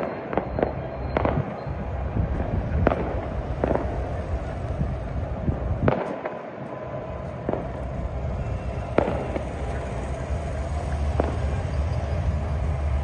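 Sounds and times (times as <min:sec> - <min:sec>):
firecracker bangs: 0:00.0 - 0:13.0
steady low rumble: 0:00.6 - 0:13.0.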